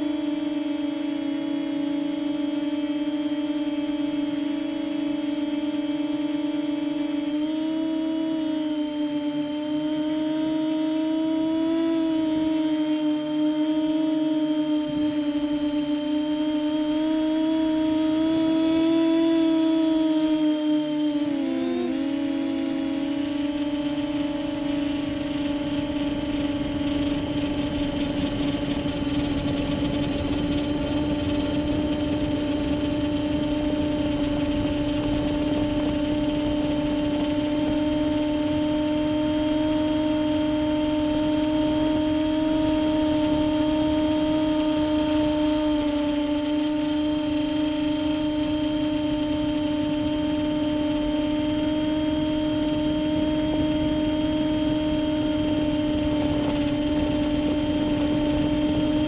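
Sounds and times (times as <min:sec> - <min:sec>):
high electronic whine: 0:00.0 - 0:59.0
motors humming: 0:00.0 - 0:59.0.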